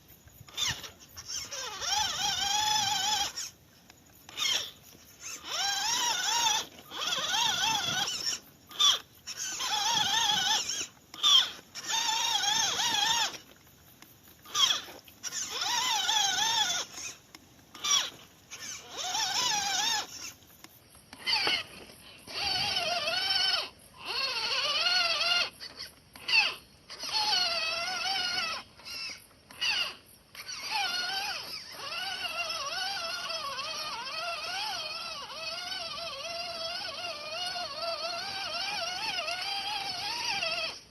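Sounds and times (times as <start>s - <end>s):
rc truck electric motor whining: 0.0s - 40.9s.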